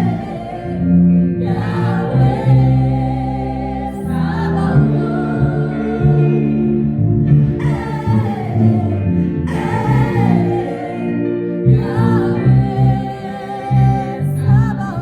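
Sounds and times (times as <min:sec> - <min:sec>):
gospel choir singing: 0:00.0 - 0:15.0
instrumental backing: 0:00.0 - 0:15.0.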